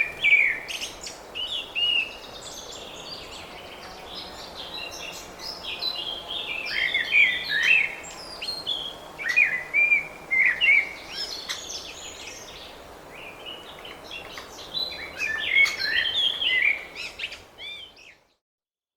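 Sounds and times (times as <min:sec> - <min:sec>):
faint background hiss: 0:00.0 - 0:18.4
small birds chirping: 0:00.0 - 0:18.4.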